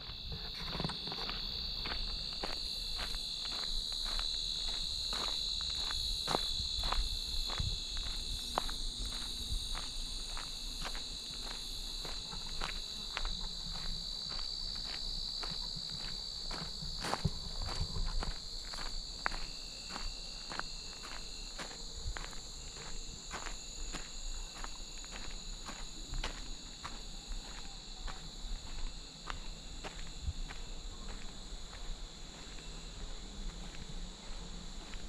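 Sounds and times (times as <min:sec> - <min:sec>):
footsteps on a trail: 0:00.0 - 0:35.0
insects chorus: 0:00.0 - 0:35.0.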